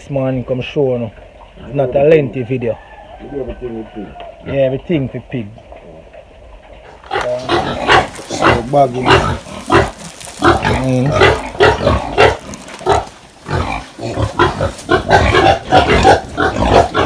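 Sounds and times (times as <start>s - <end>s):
pigs calling: 0.6s - 17.0s.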